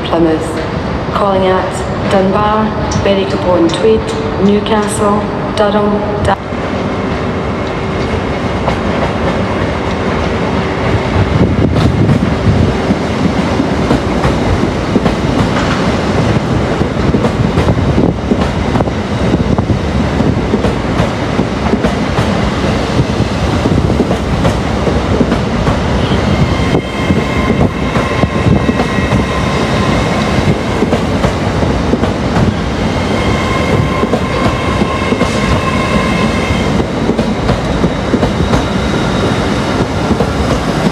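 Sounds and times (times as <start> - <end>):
train passing: 0.0 - 40.9.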